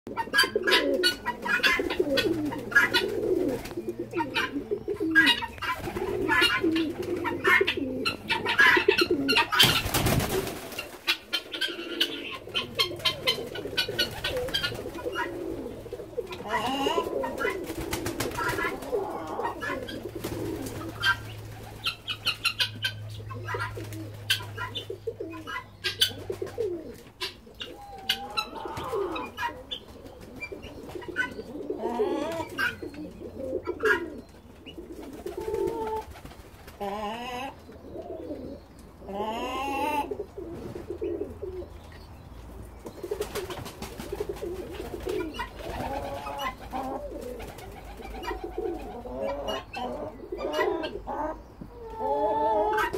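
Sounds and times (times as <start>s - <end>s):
pigeons cooing: 0.1s - 52.9s.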